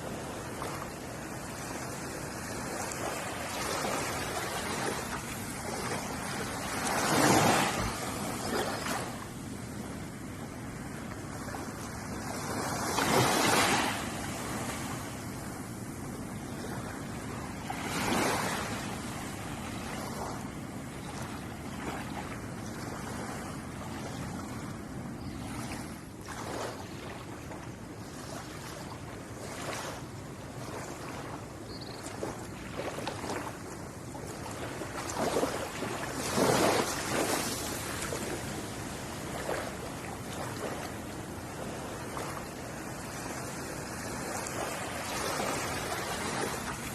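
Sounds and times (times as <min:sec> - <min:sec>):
ocean waves lapping on shore: 0:00.0 - 0:46.9.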